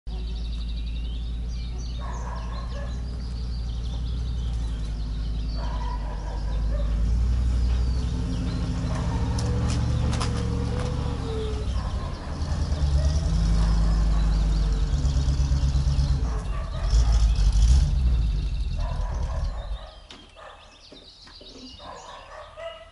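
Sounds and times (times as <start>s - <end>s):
vehicle engine rumbling: 0.1s - 20.4s
small birds chirping: 0.1s - 22.9s.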